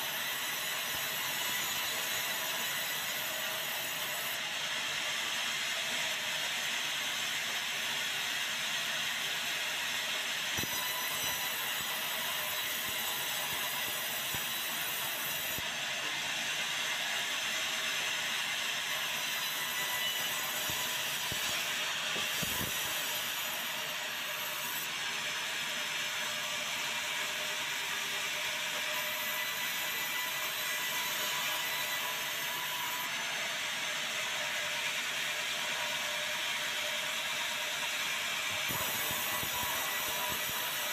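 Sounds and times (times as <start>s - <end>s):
saw cutting timber: 0.0s - 40.9s.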